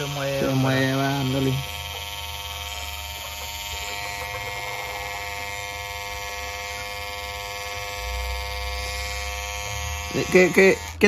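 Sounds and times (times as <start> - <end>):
electric hair trimmer buzzing: 0.0 - 11.0.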